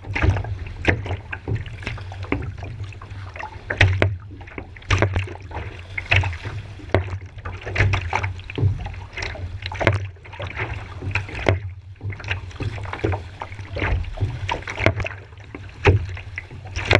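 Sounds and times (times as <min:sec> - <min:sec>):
water splashing against paddle: 0:00.0 - 0:16.9.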